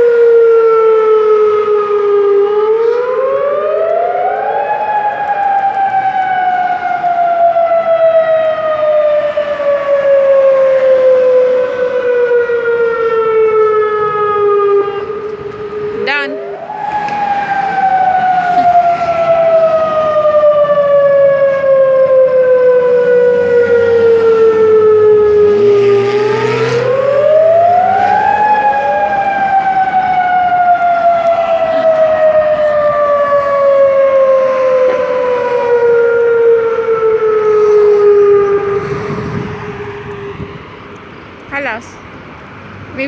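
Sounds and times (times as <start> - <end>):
siren wailing: 0.0 - 42.1.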